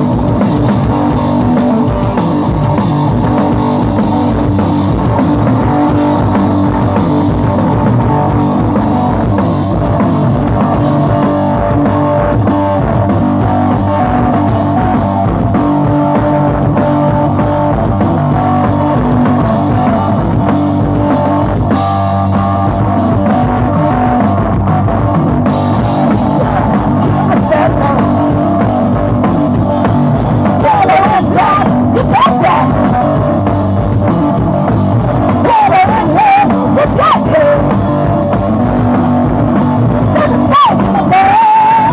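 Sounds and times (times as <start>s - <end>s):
amplified electric guitar: 0.0s - 41.9s
drum kit: 0.0s - 41.9s.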